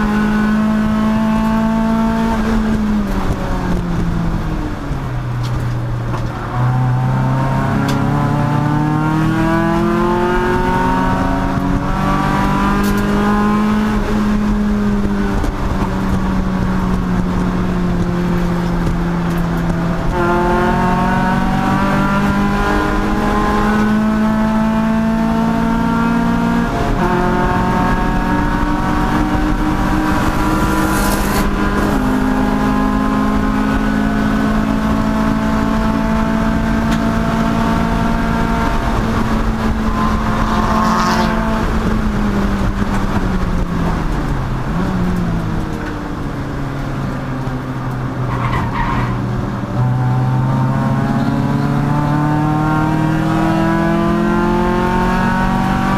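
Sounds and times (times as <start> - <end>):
race car engine accelerating: 0.0 - 55.9.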